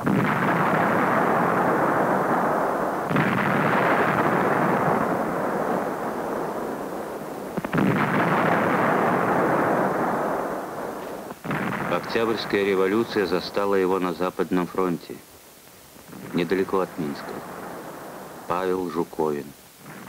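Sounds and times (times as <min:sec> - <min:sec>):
muffled artillery blasts: 0:00.0 - 0:15.2, 0:16.0 - 0:20.0.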